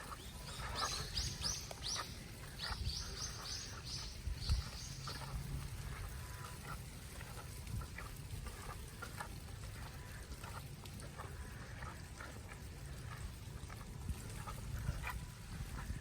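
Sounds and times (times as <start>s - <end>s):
wet ticks and patters: 0.0s - 16.0s.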